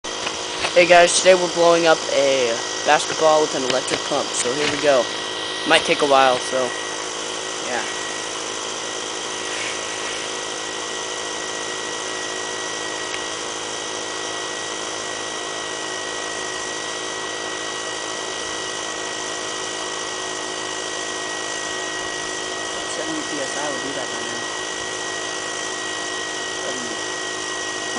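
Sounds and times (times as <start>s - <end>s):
electric air pump buzzing: 0.0s - 27.9s.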